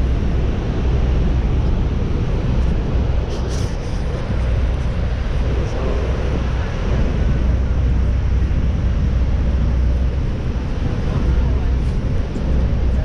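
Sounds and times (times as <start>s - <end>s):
boat engine: 0.0s - 13.0s
rushing water roar: 0.0s - 13.0s
wind rumble on microphone: 0.0s - 13.0s.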